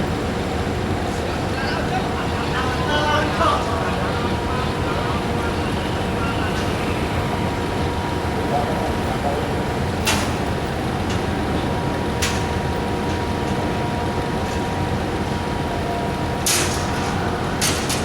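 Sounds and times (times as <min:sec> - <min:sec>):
heavy vehicle engine: 0:00.0 - 0:18.0.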